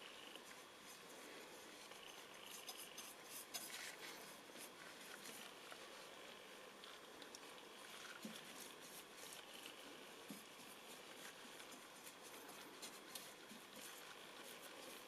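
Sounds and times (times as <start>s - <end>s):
paintbrush dabbing and scratching: 0.4s - 7.1s, 7.7s - 15.0s.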